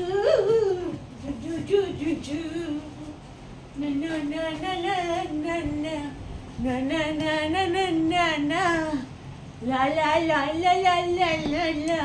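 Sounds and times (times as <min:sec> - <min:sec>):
woman singing: 0:00.0 - 0:03.2, 0:03.8 - 0:12.0.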